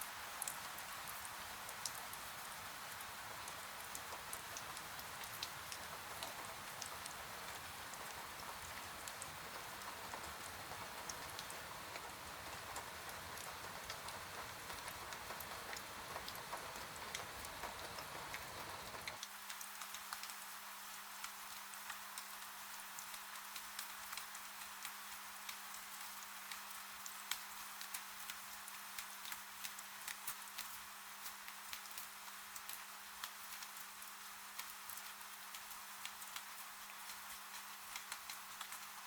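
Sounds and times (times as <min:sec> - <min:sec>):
rain falling: 0:00.0 - 0:39.0
raindrops ticking on a surface: 0:00.0 - 0:39.0.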